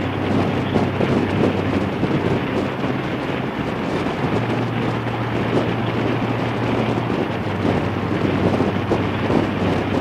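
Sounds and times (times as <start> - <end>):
motorcycle engine humming: 0.0 - 10.0
wind buffeting microphone: 0.0 - 10.0.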